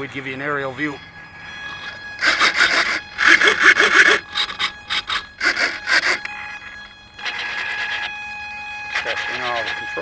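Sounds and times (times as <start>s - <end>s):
servos buzzing: 0.4s - 10.0s.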